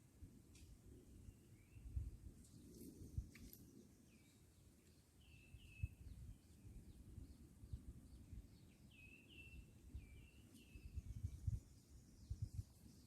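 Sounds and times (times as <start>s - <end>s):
faint bird chirps: 1.2s - 13.0s.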